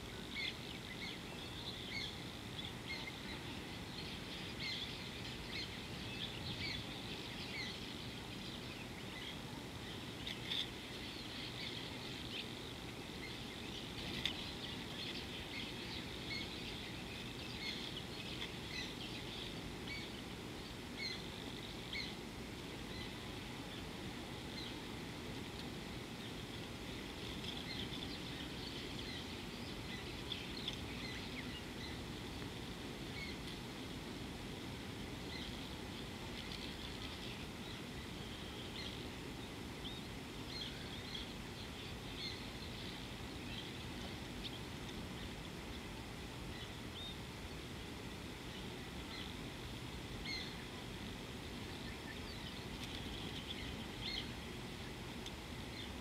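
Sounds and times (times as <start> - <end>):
outdoor ambience hiss: 0.0 - 56.0
wild birds chirping: 0.0 - 56.0.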